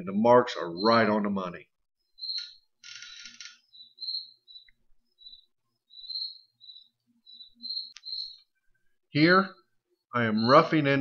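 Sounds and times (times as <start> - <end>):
bird chirping: 0.5 - 1.3, 2.0 - 11.0.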